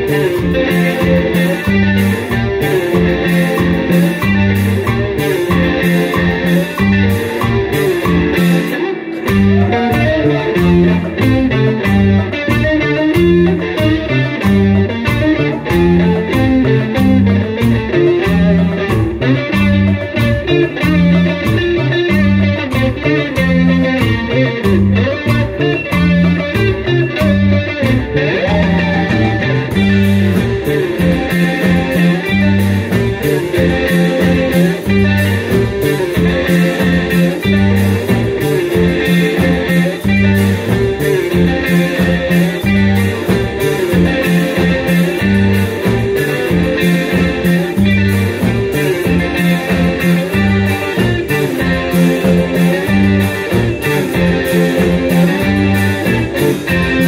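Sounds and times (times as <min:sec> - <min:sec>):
drums and percussion: 0:00.0 - 0:57.0
electric guitar melody: 0:00.0 - 0:57.0.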